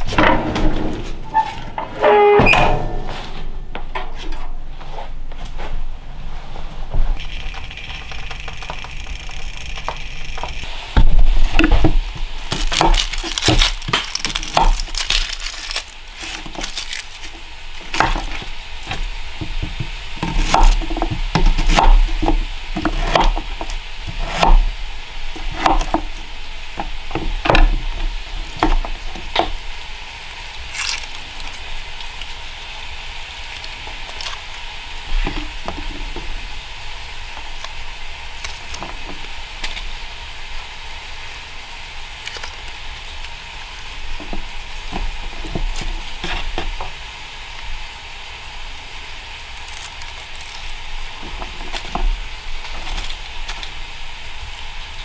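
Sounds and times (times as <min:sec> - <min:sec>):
fat sizzling in a pan: 0:06.6 - 0:55.0
sharp pops and crackles: 0:07.2 - 0:55.0.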